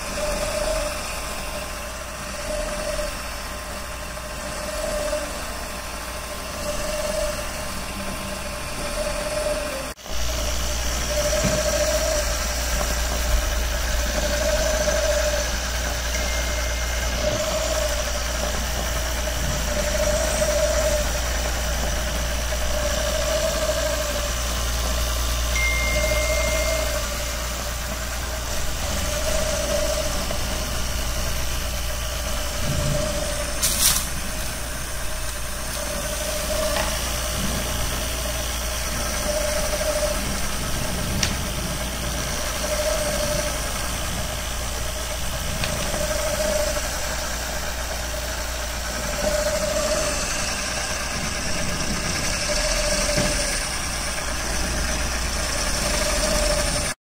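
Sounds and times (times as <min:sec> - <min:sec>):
gear motor humming: 0:00.0 - 0:57.0.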